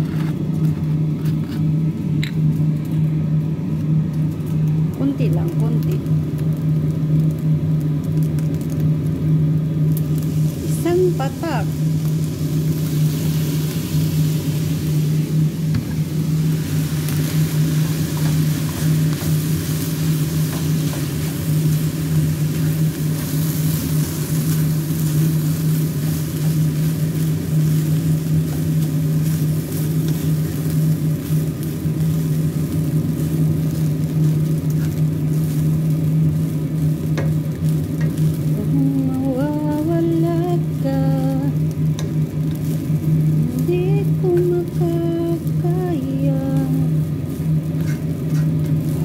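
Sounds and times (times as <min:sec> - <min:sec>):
low mechanical hum: 0:00.0 - 0:49.0
noisy hiss: 0:08.3 - 0:49.0.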